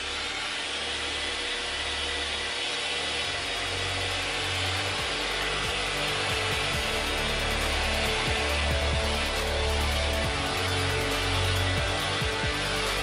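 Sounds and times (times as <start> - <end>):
electric buffer running: 0.0 - 13.0.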